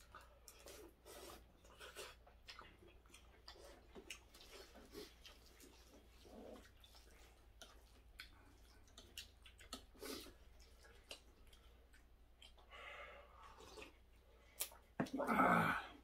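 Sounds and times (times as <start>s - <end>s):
quiet chewing: 0.0s - 15.2s.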